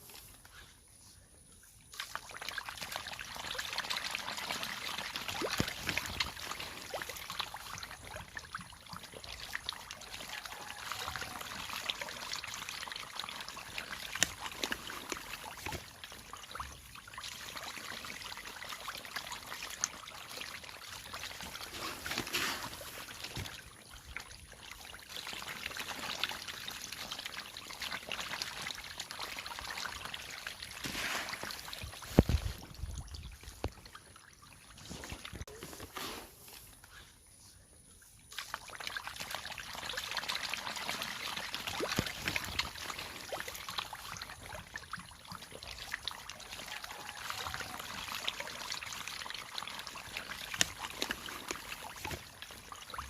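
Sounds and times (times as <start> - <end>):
water splashing and trickling: 0.0 - 53.0
small sharp splashes: 1.8 - 35.6, 38.3 - 53.0.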